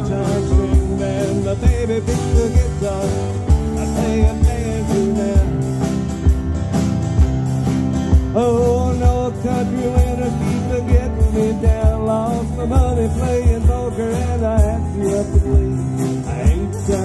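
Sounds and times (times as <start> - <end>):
person singing: 0.0 - 6.1, 8.3 - 17.0
acoustic guitars strumming: 0.0 - 17.0
keyboard: 0.0 - 17.0
steady drum beat: 0.0 - 17.0.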